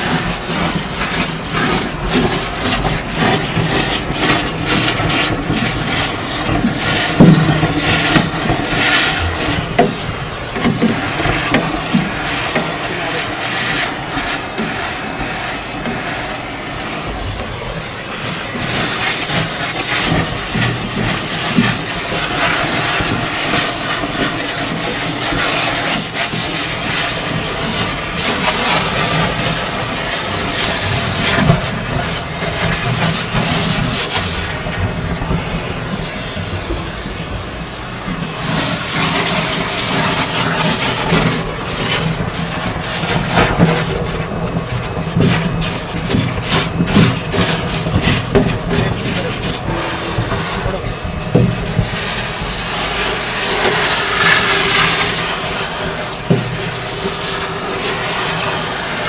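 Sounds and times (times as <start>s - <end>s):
hissing suction surges: 0.0s - 59.0s
industrial vacuum running: 0.0s - 59.0s.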